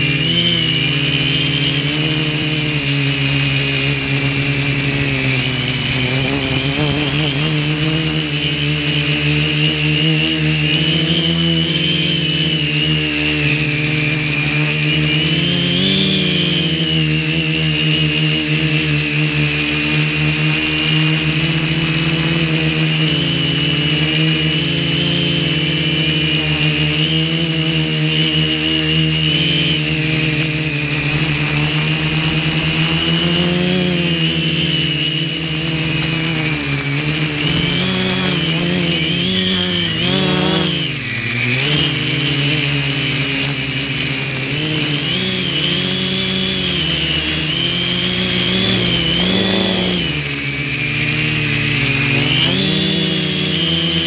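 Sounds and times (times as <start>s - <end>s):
quadcopter motors buzzing: 0.0s - 54.0s.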